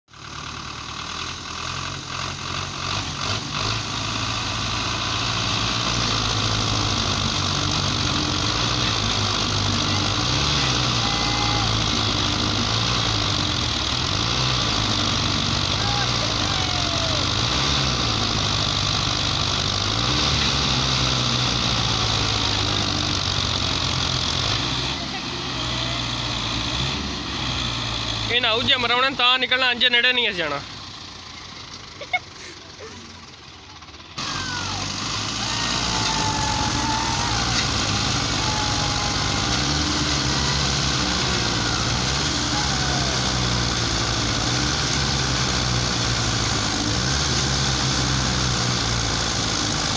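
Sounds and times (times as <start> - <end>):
tractor diesel engines straining: 0.1 - 49.9.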